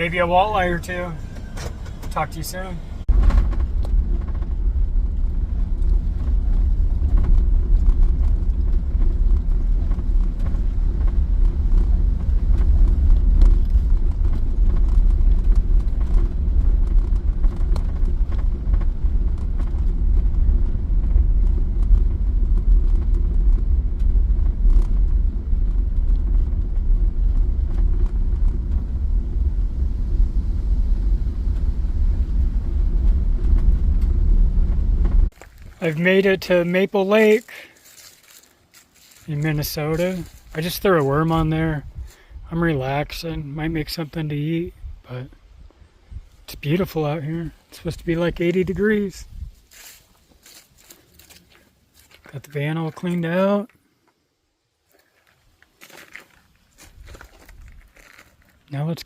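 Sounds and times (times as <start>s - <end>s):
van engine rumble: 0.0s - 53.8s, 55.0s - 59.0s
road noise: 0.0s - 59.0s.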